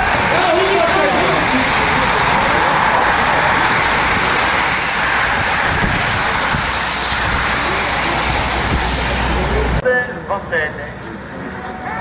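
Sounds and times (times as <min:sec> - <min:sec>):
bicycle tyres hissing on road: 0:00.0 - 0:09.8.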